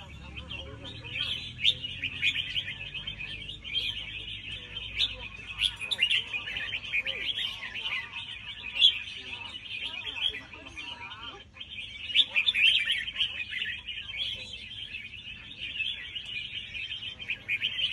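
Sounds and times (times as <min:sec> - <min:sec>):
songbird chirping and twittering: 0:00.0 - 0:17.9.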